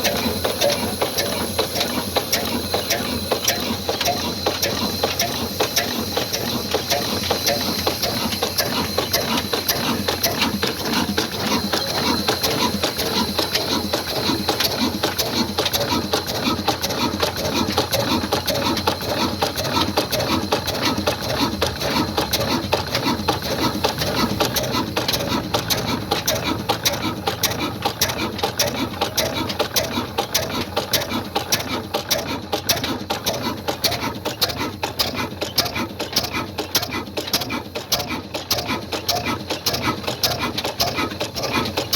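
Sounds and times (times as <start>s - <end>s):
stationary diesel engine clattering: 0.0s - 41.9s.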